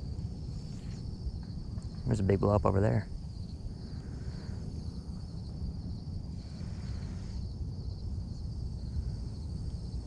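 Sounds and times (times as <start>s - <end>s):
insects chirring: 0.0s - 10.0s
wind rumbling on microphone: 0.0s - 10.0s.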